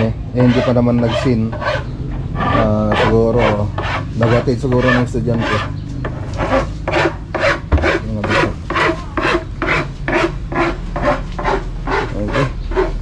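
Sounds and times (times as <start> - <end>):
wood being sanded by hand: 0.0 - 1.8, 2.4 - 5.7, 6.4 - 13.0.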